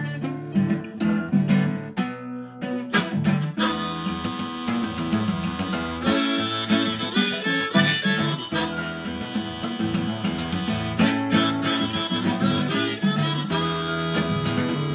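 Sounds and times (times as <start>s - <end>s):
harmonica held notes: 0.0s - 14.9s
strummed acoustic guitar: 0.0s - 14.9s.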